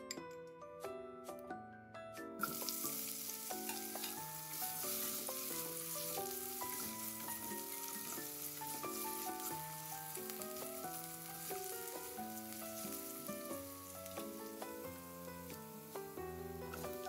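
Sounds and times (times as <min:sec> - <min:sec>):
background music: 0:00.0 - 0:17.0
potatoes sizzling in frying pan: 0:02.4 - 0:17.0
spatula stirring: 0:02.4 - 0:17.0.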